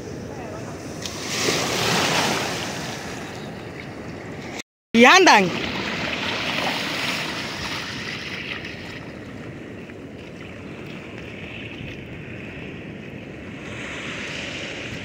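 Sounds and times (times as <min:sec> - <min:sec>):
surf washing over sandy beach: 0:00.0 - 0:03.5, 0:05.4 - 0:15.0.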